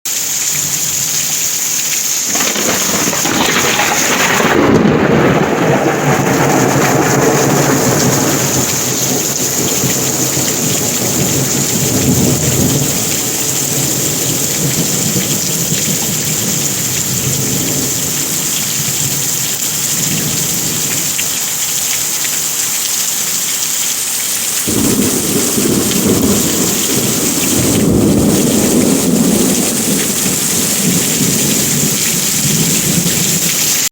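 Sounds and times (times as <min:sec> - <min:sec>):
heavy rain falling: 0:00.1 - 0:33.9
rolling thunder: 0:02.3 - 0:21.2, 0:24.6 - 0:33.8.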